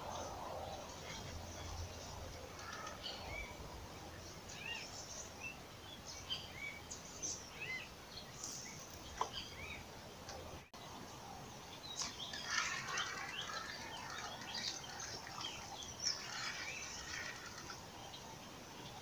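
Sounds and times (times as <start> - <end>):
birds chirping: 0.0 - 19.0
steady outdoor hiss: 0.0 - 19.0.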